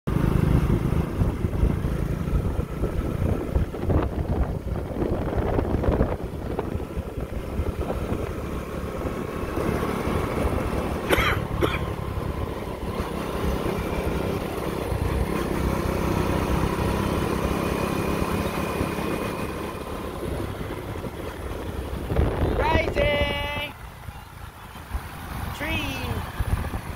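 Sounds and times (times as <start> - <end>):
motorbike engine rumble: 0.1 - 26.9.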